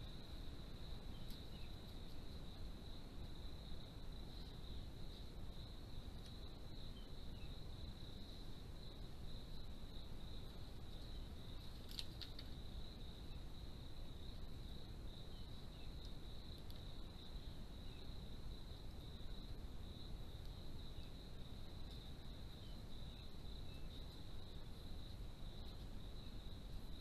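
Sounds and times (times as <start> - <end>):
crickets trilling: 0.0 - 27.0
low background hiss: 0.0 - 27.0.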